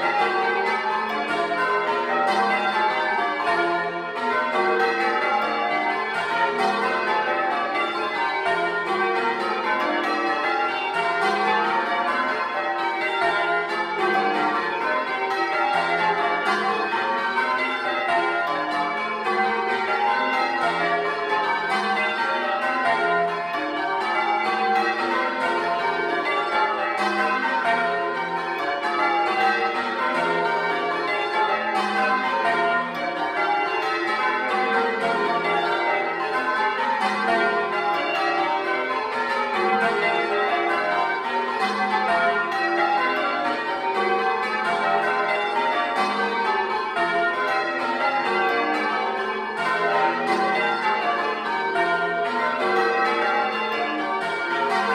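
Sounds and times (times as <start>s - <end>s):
church bells change ringing: 0.0s - 54.9s.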